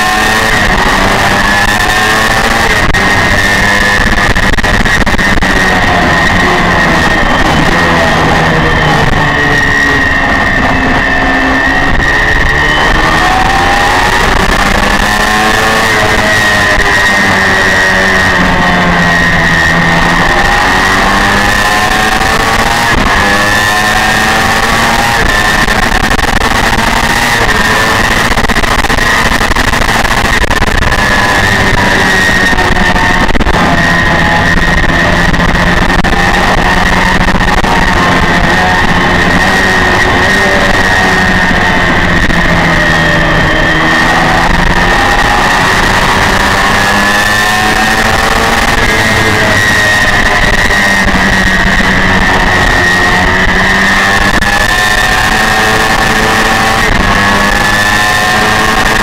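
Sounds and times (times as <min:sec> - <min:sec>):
motorcycle engine at high revs: 0:00.0 - 0:59.0
wind rush: 0:00.0 - 0:59.0.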